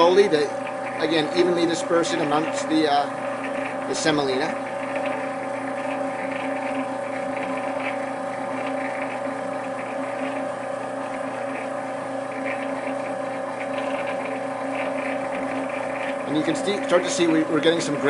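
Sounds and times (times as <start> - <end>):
pasta machine motor hum: 0.0 - 18.0.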